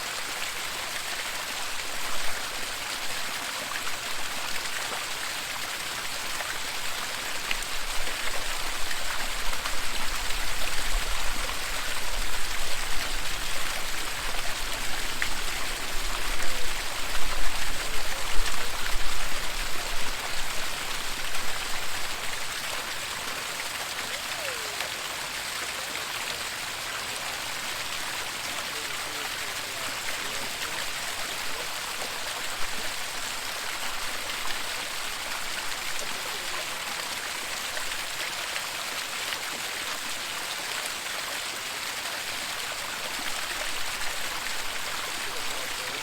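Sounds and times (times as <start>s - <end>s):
rush of falling water: 0.0s - 46.0s.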